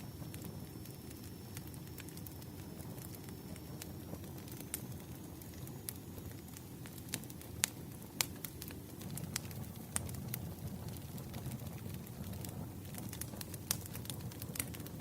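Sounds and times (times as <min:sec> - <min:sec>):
firewood popping and crackling: 0:00.0 - 0:15.0
low rumble of flames: 0:00.0 - 0:15.0.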